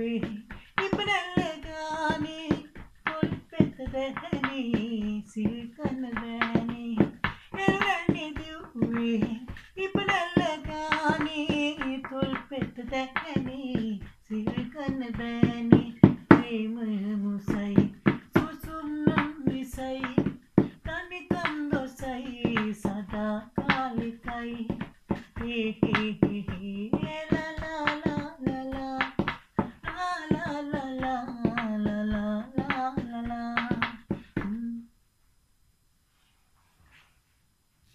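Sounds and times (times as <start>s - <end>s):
hands tapping a rhythm: 0.0s - 16.7s, 17.4s - 34.8s.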